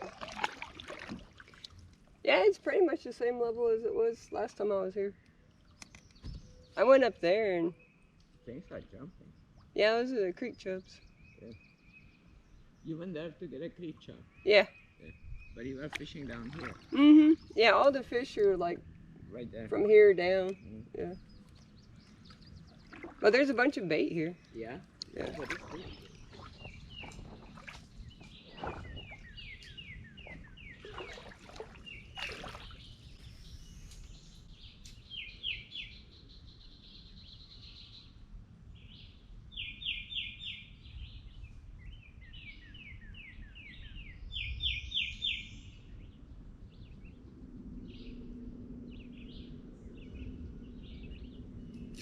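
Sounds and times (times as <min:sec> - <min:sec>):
low outdoor background rumble: 0:00.0 - 0:52.0
songbirds chirping: 0:00.0 - 0:52.0.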